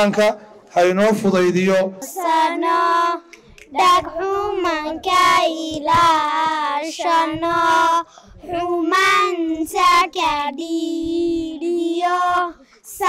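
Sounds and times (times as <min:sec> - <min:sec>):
girls singing into microphone: 0:02.0 - 0:13.0.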